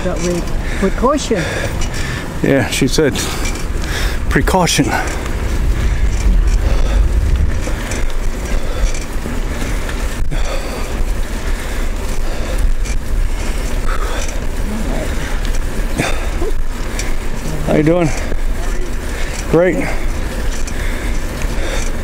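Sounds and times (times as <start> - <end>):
bicycle tyre noise: 0.0 - 22.0
wind buffeting microphone: 0.0 - 22.0.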